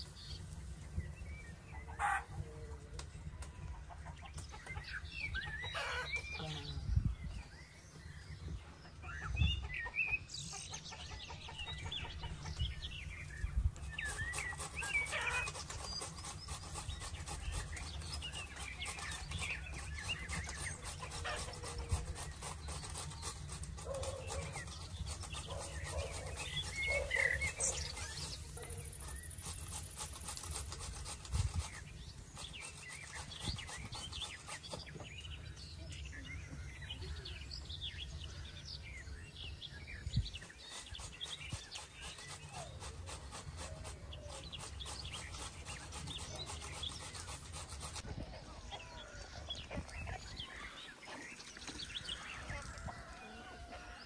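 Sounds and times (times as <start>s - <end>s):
chickens clucking: 1.5s - 6.6s, 8.6s - 35.1s, 40.4s - 54.0s.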